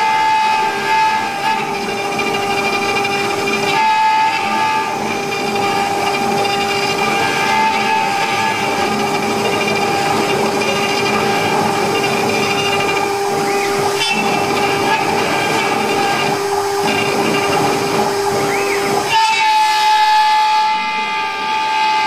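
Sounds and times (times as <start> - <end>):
hissing cutting noise: 0.0 - 21.7
router spindle whining: 0.0 - 22.0.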